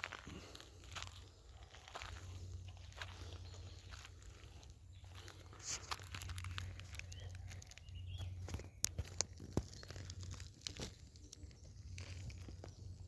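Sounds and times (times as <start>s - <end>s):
leaves and twigs crunching underfoot: 0.0s - 13.0s.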